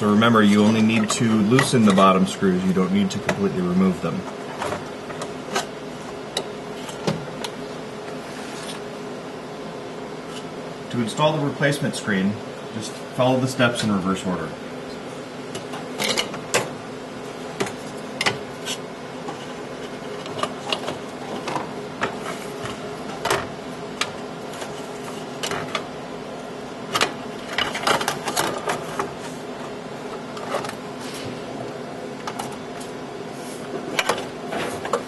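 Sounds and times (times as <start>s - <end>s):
room equipment hum: 0.0s - 35.0s.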